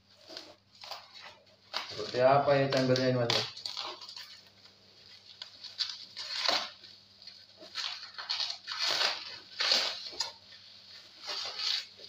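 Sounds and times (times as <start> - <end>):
bubble wrap crinkling and tearing: 0.0 - 12.0.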